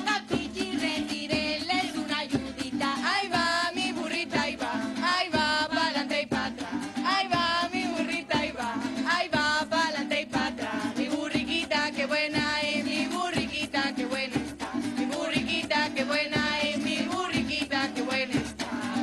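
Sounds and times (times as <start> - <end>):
cuatro strumming: 0.0 - 19.0
women singing: 0.0 - 19.0.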